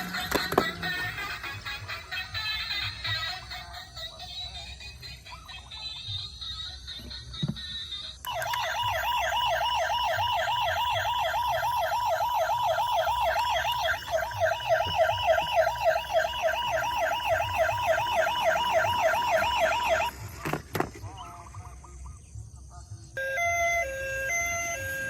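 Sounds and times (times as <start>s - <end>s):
toy siren warbling: 0.0s - 20.4s, 23.2s - 25.0s.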